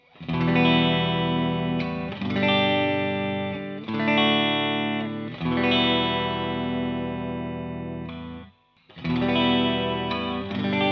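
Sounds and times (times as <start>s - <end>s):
electric guitar chords with chorus: 0.0s - 10.9s.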